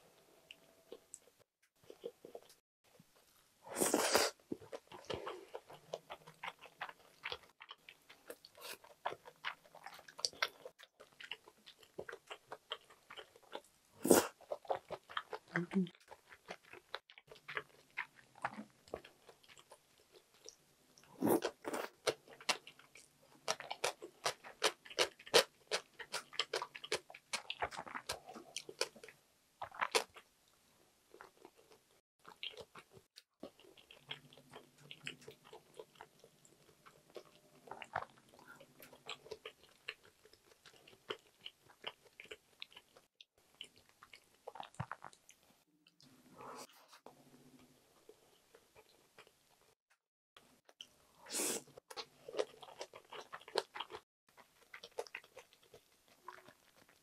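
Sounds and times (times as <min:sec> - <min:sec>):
person crunching and chewing food: 0:03.2 - 0:30.3, 0:31.1 - 0:49.7, 0:50.6 - 0:57.0.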